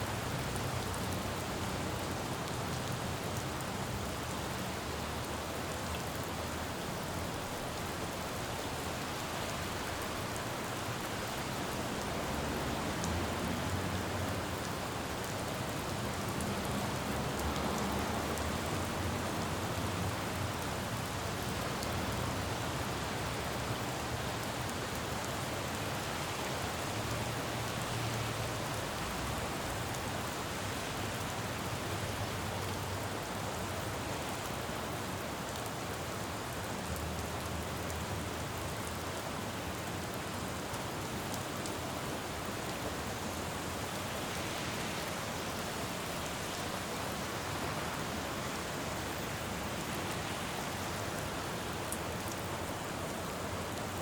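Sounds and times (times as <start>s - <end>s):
steady rain on road: 0.0s - 54.0s.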